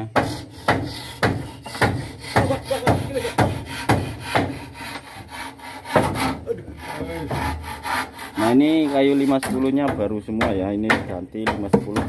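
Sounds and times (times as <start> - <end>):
handsaw cutting wood: 0.0 - 9.8.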